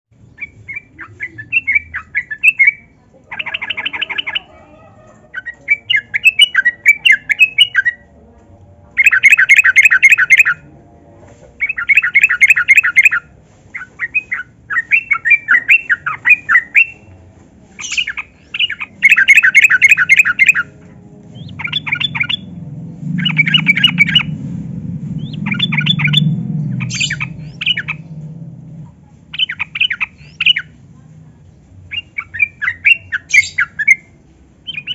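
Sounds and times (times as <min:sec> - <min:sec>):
bird chattering song: 0:00.2 - 0:08.1, 0:09.0 - 0:10.7, 0:11.6 - 0:17.2, 0:17.8 - 0:20.8, 0:21.4 - 0:28.3, 0:29.0 - 0:30.8, 0:31.8 - 0:34.9.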